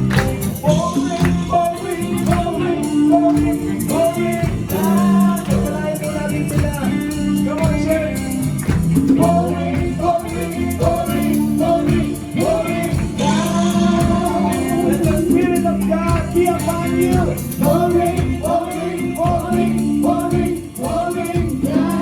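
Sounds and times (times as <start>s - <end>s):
guitar: 0.0s - 22.0s
person singing: 0.0s - 22.0s
tambourine-like hand percussion: 0.0s - 22.0s.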